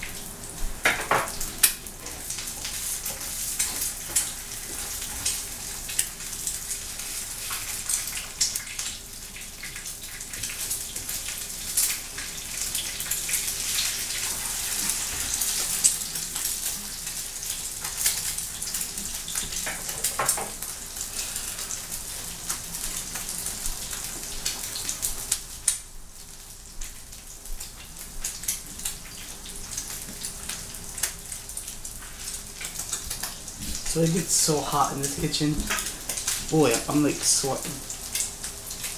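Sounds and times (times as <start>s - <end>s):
eggs sizzling in a skillet: 0.0s - 38.9s.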